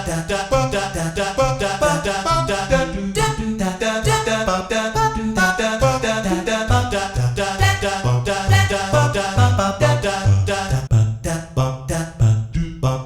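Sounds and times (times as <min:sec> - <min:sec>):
bouncing bass line: 0:00.0 - 0:11.3, 0:12.2 - 0:13.0
sampled scat vocals: 0:00.0 - 0:13.0.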